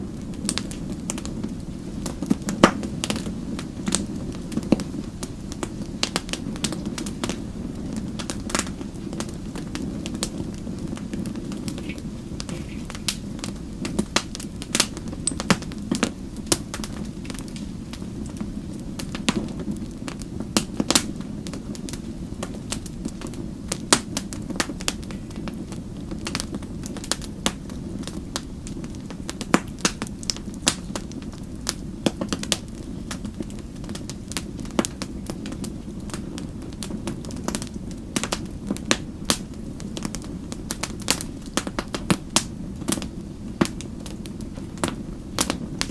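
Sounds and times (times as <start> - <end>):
flames rushing: 0.0 - 45.9
wood fire crackling and popping: 0.0 - 45.9.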